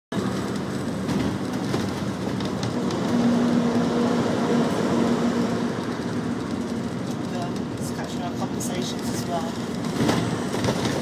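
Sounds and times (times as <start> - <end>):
bus engine and road rumble: 0.1 - 11.0.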